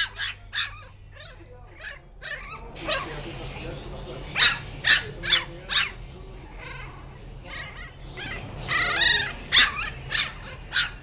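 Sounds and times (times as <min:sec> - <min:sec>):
puppy yipping: 0:00.0 - 0:03.2, 0:04.4 - 0:11.0
puppy whining: 0:00.0 - 0:03.3, 0:04.3 - 0:11.0.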